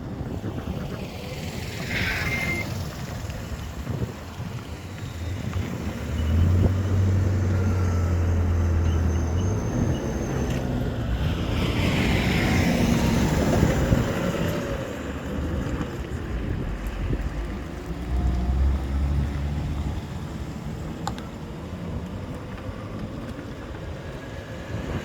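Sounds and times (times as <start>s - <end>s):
tyre and road noise: 0.0s - 25.0s
vehicle engine hum: 0.0s - 25.0s
wind on microphone: 0.0s - 25.0s.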